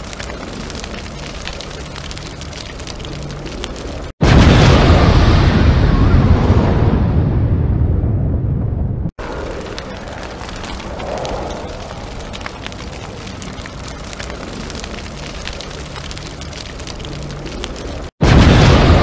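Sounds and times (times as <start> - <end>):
rumbling crackling sound effect: 0.0 - 19.0.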